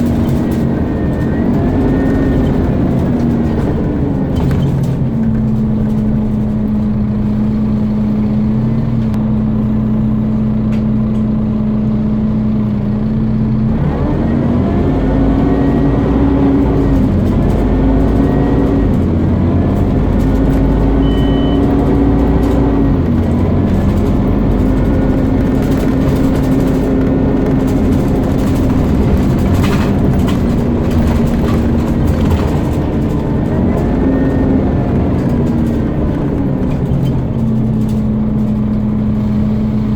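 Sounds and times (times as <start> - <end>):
bus engine whining: 0.0 - 39.9.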